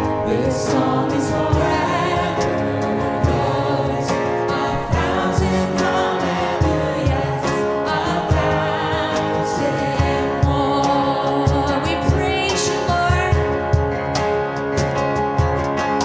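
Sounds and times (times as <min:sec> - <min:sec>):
choir singing: 0:00.0 - 0:13.3
band with steady drum beat: 0:00.0 - 0:16.0.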